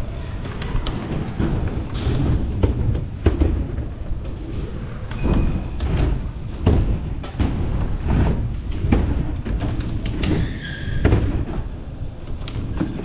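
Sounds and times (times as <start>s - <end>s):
bike tyres rumbling: 0.0s - 13.0s
bike thuds and knocks: 0.7s - 13.0s.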